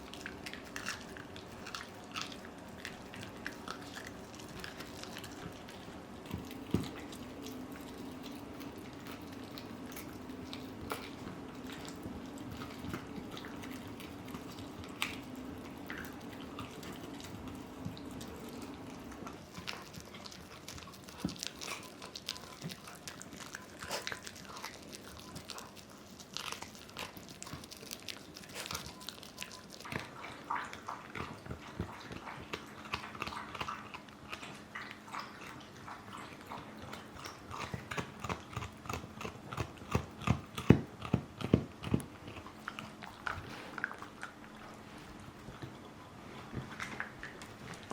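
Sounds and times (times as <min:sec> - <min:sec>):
dogs gnawing and crunching chews: 0:00.0 - 0:47.9.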